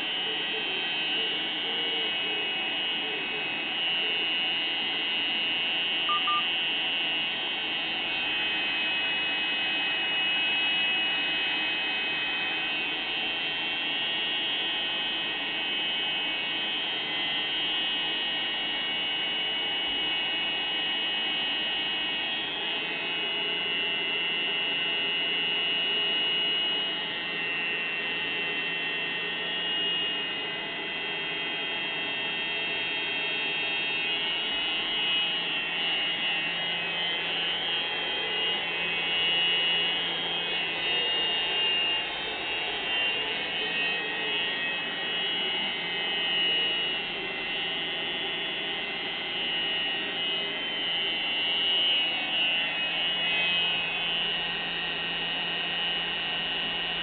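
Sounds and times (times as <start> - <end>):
heater high-pitched whine: 0.0 - 57.0.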